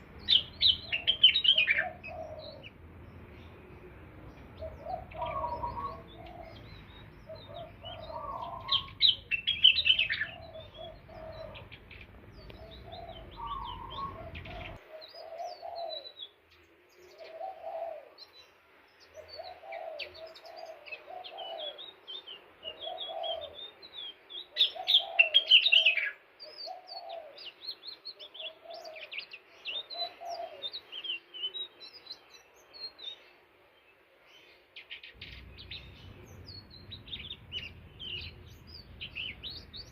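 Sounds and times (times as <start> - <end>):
lower bird call: 0.0 - 16.4, 17.0 - 33.4, 35.0 - 39.9
high bird chirping and twittering: 0.0 - 33.3, 34.8 - 39.9.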